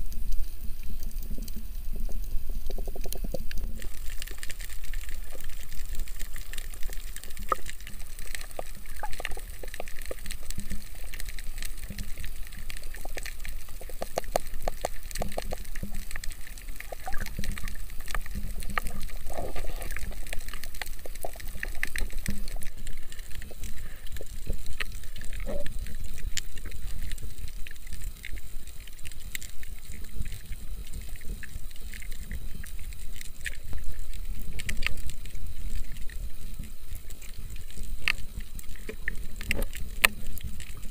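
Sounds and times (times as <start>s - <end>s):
crackling clicks: 0.0s - 40.9s
underwater rumble of moving water: 0.0s - 40.9s.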